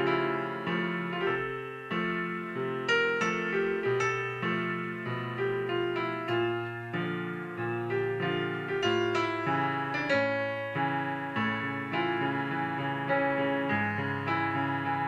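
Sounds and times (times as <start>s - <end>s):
piano chords on keyboard: 0.0s - 15.0s.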